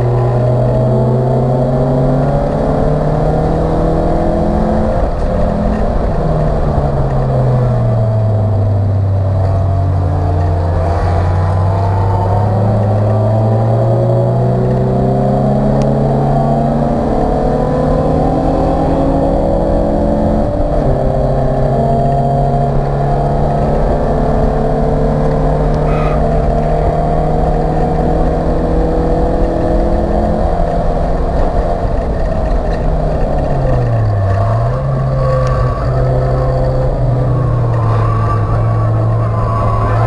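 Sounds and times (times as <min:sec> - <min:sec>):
race car engine running hard: 0:00.0 - 0:40.0.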